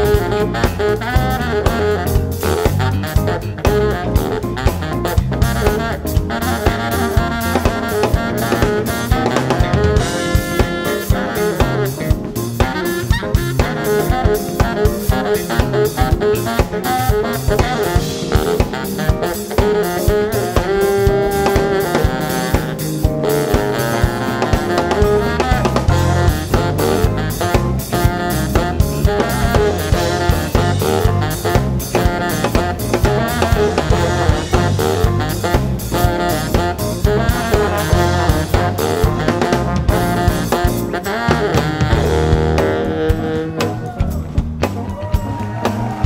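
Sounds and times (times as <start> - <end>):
drum kit groove: 0.0 - 46.0
electric bass: 0.0 - 46.0
electric piano: 0.0 - 46.0
saxophone melody: 0.0 - 46.0.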